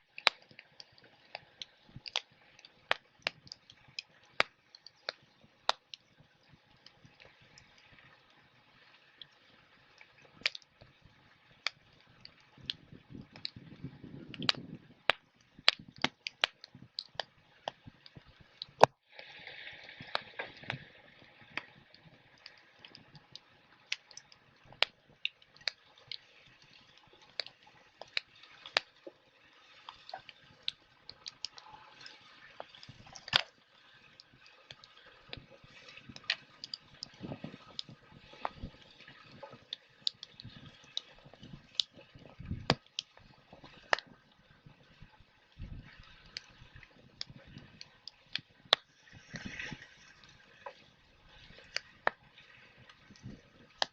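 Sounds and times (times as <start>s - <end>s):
wood fire crackling and popping: 0.0s - 8.5s, 9.1s - 19.0s, 19.8s - 52.2s, 52.8s - 53.9s.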